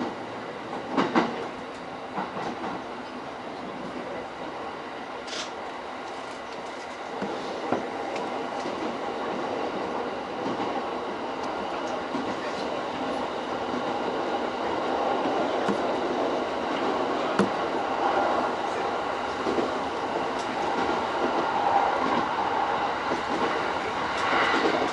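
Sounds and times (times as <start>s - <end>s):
train wheels on rail: 0.0s - 24.9s.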